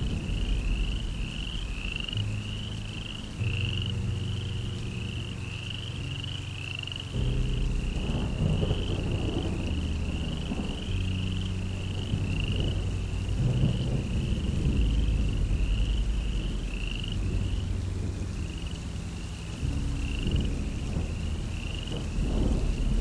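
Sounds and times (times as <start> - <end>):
low rumbling drone: 0.0 - 23.0
rhythmic animal chirping: 0.0 - 23.0.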